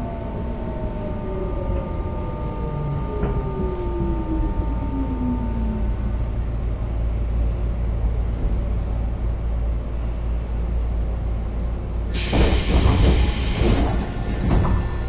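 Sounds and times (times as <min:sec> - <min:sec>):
electric train rumble: 0:00.0 - 0:15.0.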